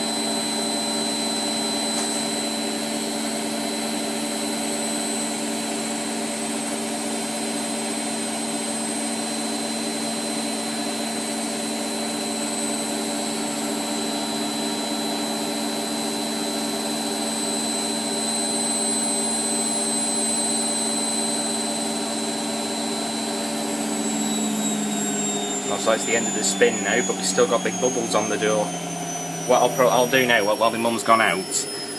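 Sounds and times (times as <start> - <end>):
washing machine spinning: 0.0 - 31.9.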